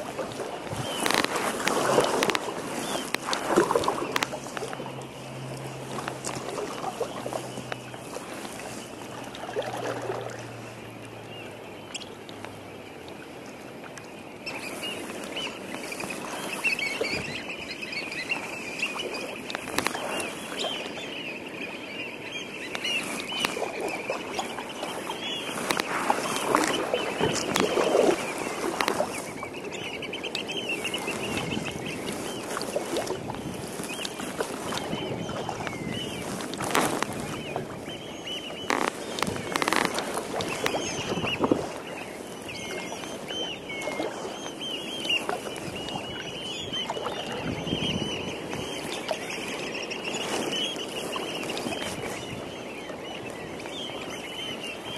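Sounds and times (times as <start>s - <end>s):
flock of waterbirds calling: 0.0s - 54.9s
paddle strokes splashing water: 0.0s - 54.9s.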